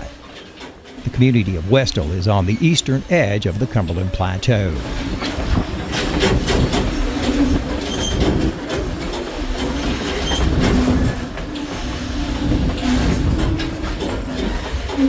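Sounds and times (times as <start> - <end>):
thin wheel squeals: 0.0 - 4.2, 4.8 - 15.0
rail clicks: 0.0 - 15.0
train wheels rumbling on track: 0.0 - 15.0.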